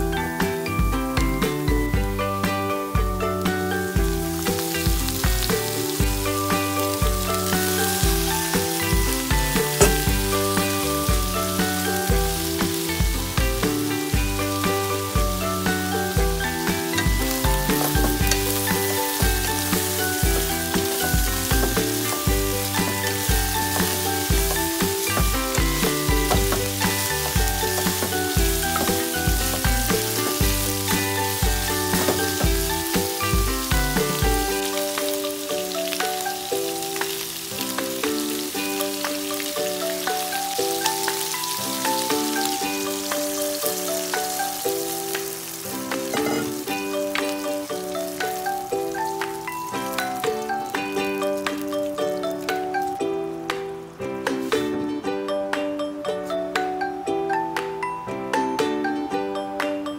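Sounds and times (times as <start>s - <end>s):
meat sizzling in a pan: 0.0s - 53.4s
background music with steady beat: 0.0s - 59.9s.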